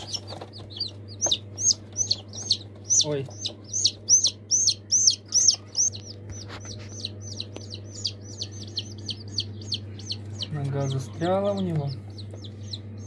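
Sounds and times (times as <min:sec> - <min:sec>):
chick peeping rapidly: 0:00.0 - 0:13.0
steady low hum: 0:00.0 - 0:13.0.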